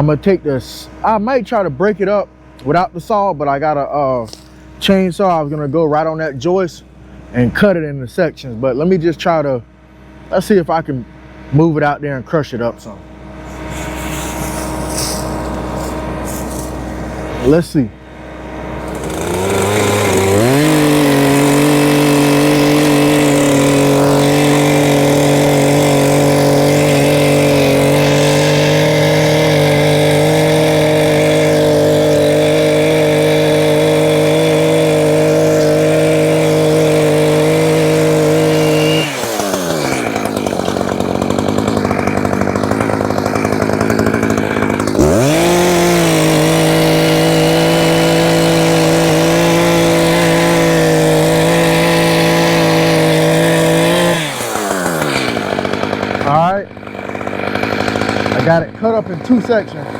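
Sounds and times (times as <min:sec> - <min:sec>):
chainsaw cutting wood: 0:00.0 - 0:07.6, 0:12.7 - 0:59.9.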